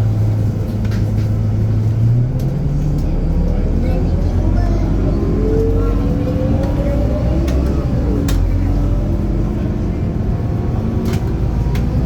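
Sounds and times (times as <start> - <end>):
diesel bus pulling away: 0.0 - 12.0
engine whine: 0.0 - 12.0.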